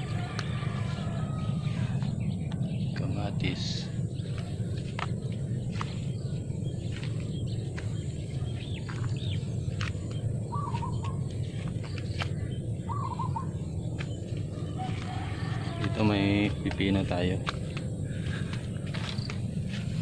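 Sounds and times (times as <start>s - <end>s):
bird warbling trills: 0.0s - 19.8s
small birds chirping: 0.0s - 20.0s
steady low rumble: 0.0s - 20.0s.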